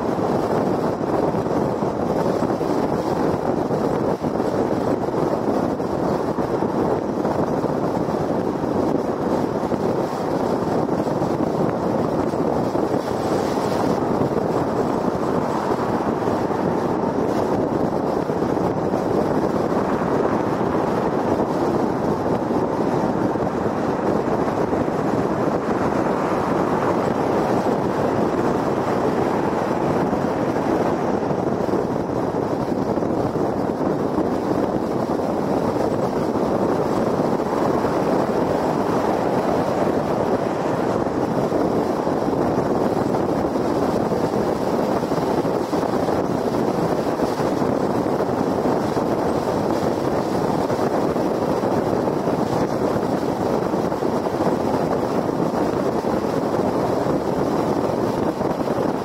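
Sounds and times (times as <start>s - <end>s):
tyres on concrete road: 0.0s - 58.9s
wind noise: 0.0s - 59.0s.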